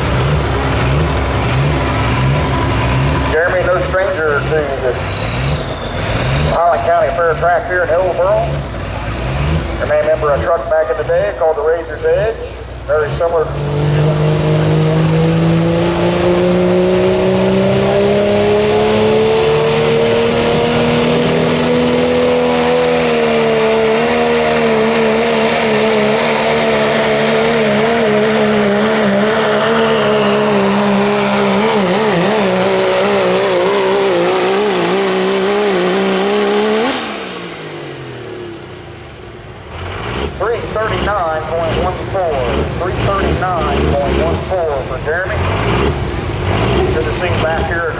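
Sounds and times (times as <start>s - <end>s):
pickup truck engine at full throttle: 0.0s - 47.9s.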